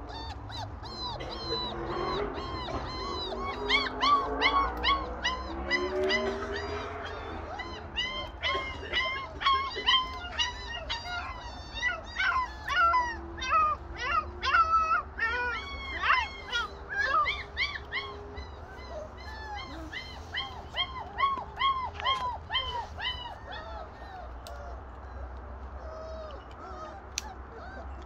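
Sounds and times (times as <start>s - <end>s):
puppies whining and yelping: 0.0s - 28.0s.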